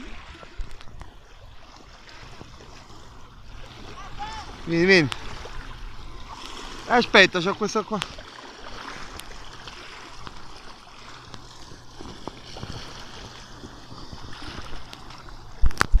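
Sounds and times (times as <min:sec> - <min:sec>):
sea water lapping over rocks: 0:00.0 - 0:16.0.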